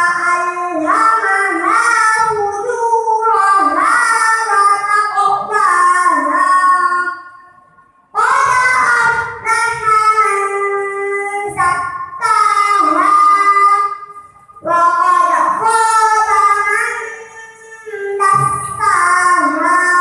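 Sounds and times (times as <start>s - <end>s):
girl chanting recitation: 0.0s - 20.0s.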